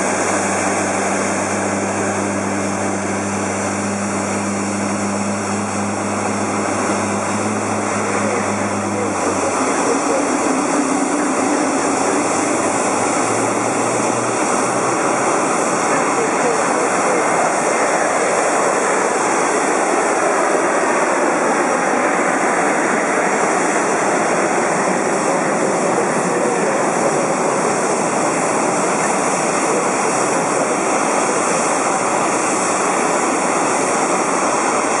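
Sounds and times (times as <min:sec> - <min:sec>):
jet engine running steadily: 0:00.0 - 0:35.0.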